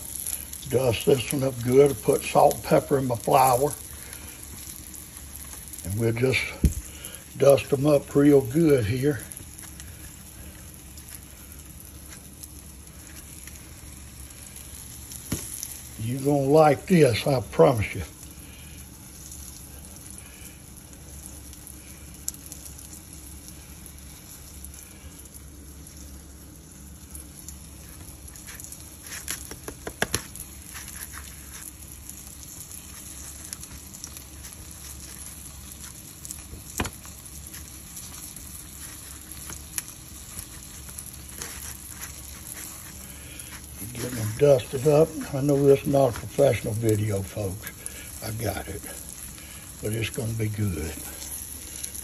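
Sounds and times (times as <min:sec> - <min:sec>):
patties sizzling in oil: 0:00.0 - 0:52.0.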